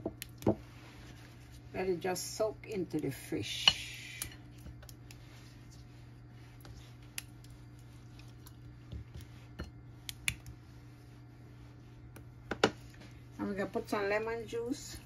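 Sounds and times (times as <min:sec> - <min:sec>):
steady low hum: 0:00.0 - 0:15.0
soft wet brushing: 0:00.6 - 0:02.9, 0:04.3 - 0:15.0.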